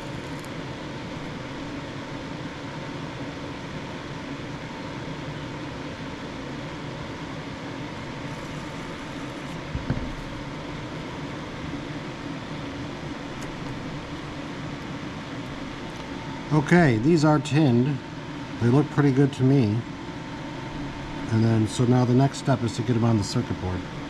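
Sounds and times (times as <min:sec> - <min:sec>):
faint hum: 0:00.0 - 0:24.0
fan whirring: 0:00.0 - 0:24.0.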